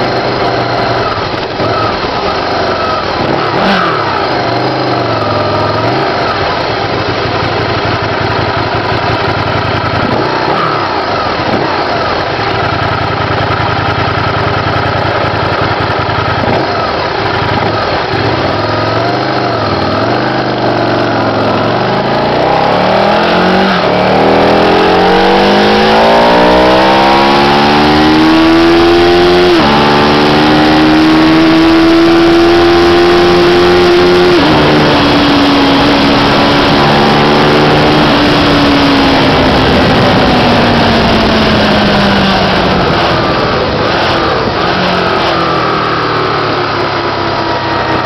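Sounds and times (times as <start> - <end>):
wind noise: 0.0 - 45.8
motorcycle engine accelerating: 0.0 - 48.0.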